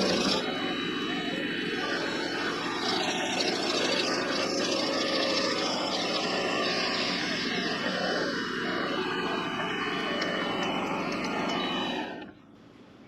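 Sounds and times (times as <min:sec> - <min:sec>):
lathe motor drone with high whine: 0:00.0 - 0:12.5.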